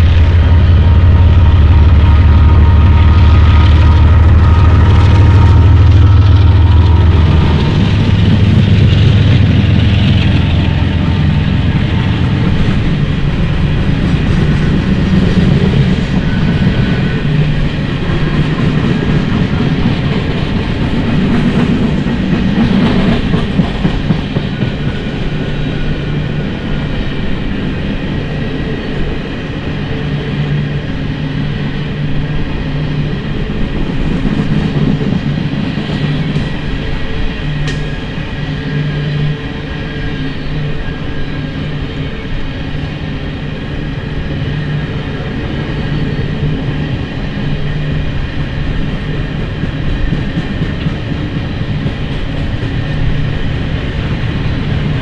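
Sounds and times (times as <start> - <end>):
diesel locomotive engine drumming: 0.0 - 55.0.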